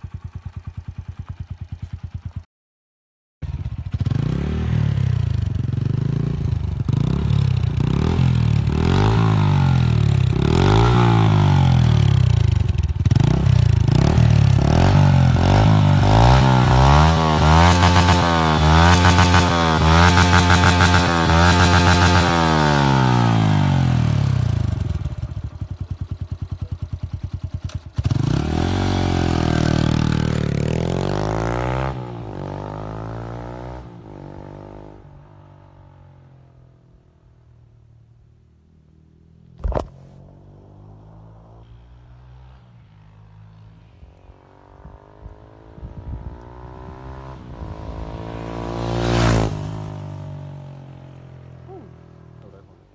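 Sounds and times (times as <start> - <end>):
motorcycle engine revving: 0.0 - 2.5, 3.4 - 37.0, 38.7 - 52.9
motorcycle pulling away: 3.4 - 36.9, 39.0 - 52.9.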